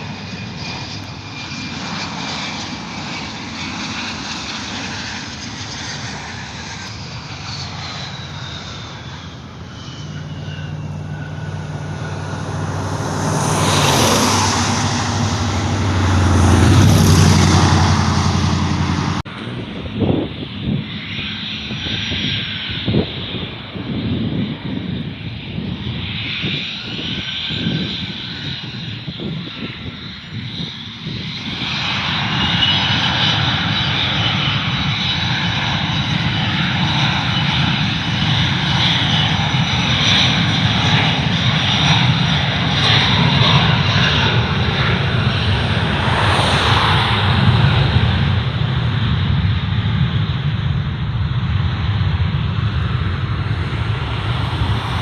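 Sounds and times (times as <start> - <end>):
jet engines whining and rumbling: 0.0 - 55.0.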